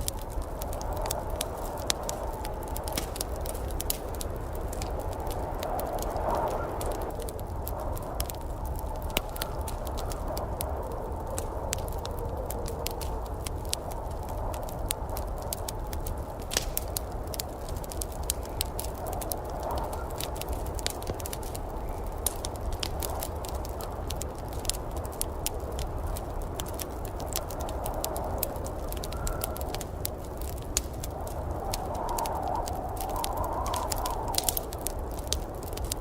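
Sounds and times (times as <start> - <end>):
fire popping: 0.0 - 36.0
wood fire crackling: 0.0 - 36.0.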